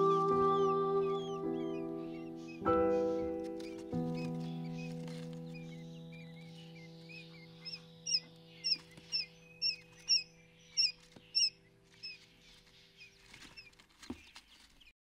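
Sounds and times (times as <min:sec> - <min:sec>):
quail chicks peeping: 0:00.0 - 0:14.9
soft background music: 0:00.0 - 0:14.9.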